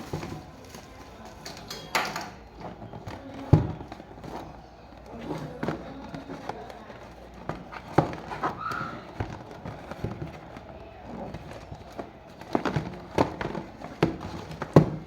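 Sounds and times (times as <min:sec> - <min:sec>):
plastic packaging clicks and knocks: 0:00.0 - 0:15.0.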